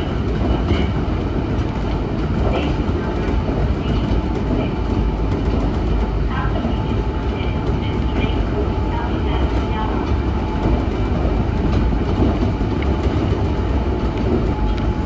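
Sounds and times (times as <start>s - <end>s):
electric train running rumble: 0.0s - 15.0s.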